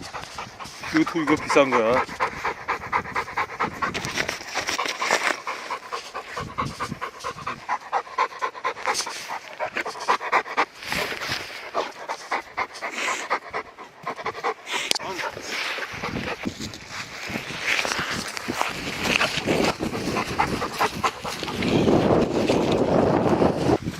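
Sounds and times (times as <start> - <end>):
dog panting hard: 0.0 - 22.6.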